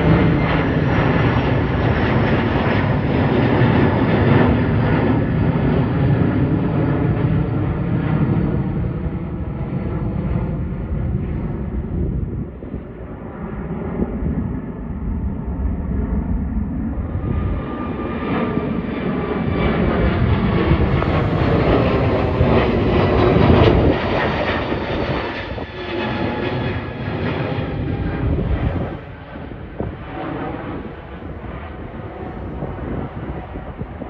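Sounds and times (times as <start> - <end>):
faint jet whine: 0.0 - 34.0
jet engines rumbling overhead: 0.0 - 34.0.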